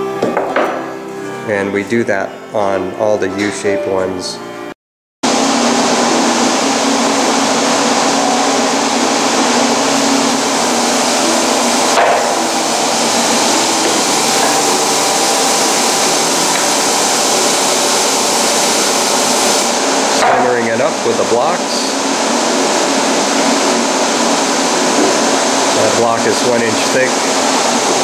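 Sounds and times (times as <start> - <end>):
loud machine rushing noise: 5.2 - 28.0.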